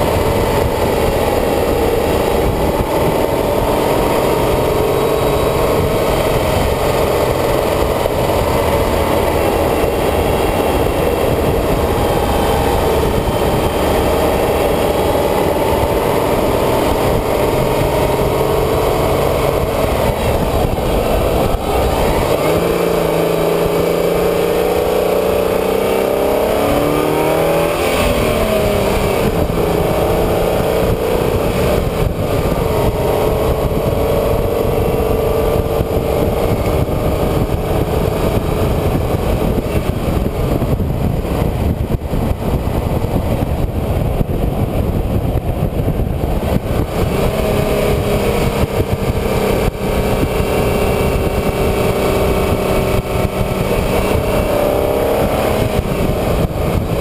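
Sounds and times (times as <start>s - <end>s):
car engine while driving: 0.0s - 57.0s
road and wind noise: 0.0s - 57.0s.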